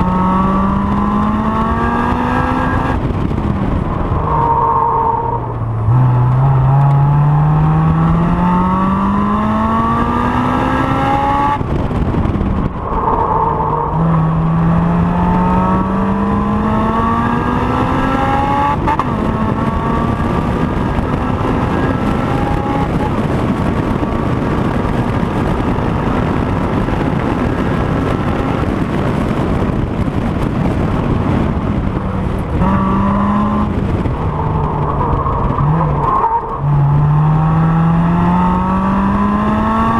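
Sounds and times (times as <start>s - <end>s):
car engine revving at full throttle: 0.0s - 39.9s.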